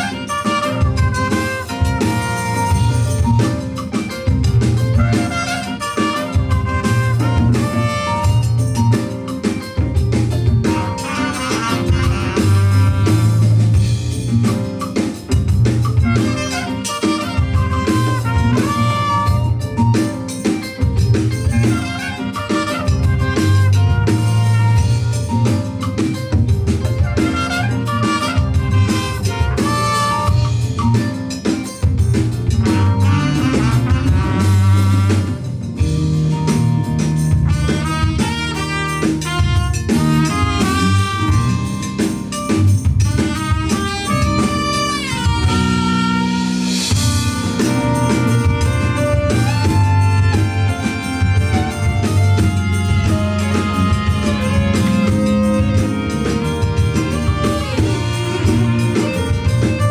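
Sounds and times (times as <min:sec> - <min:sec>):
jazz fusion band playing: 0:00.0 - 0:59.9.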